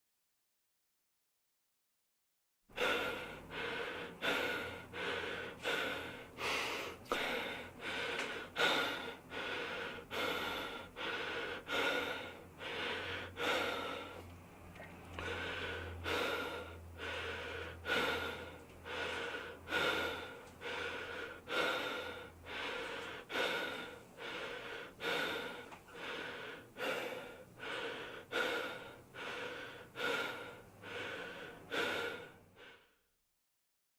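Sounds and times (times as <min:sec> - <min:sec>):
person breathing heavily: 0:02.7 - 0:33.1.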